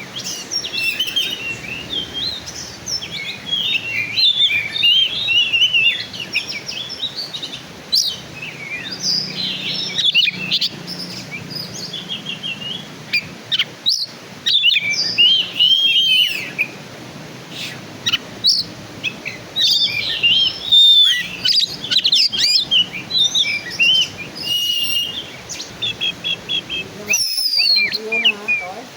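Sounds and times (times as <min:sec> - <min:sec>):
songbird singing varied whistles: 0:00.0 - 0:16.8, 0:17.5 - 0:28.9.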